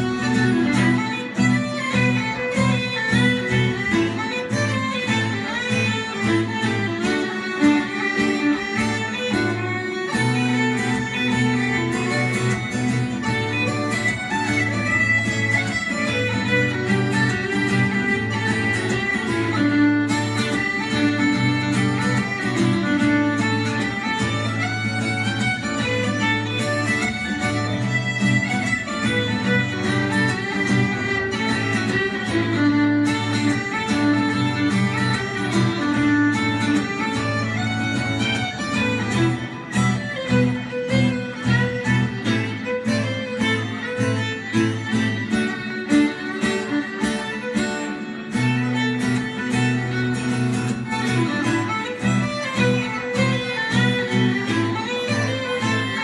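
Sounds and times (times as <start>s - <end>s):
fiddle: 0.0s - 56.0s
strummed acoustic guitar: 0.0s - 56.0s.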